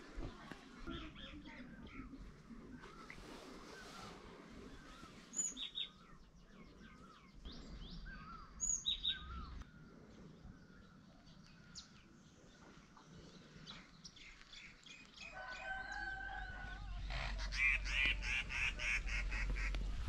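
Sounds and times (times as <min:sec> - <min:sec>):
small birds chirping: 0:00.0 - 0:19.8.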